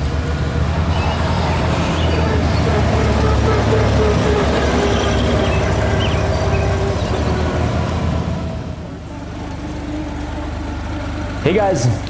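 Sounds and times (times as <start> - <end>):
car engine driving away: 0.0 - 12.0.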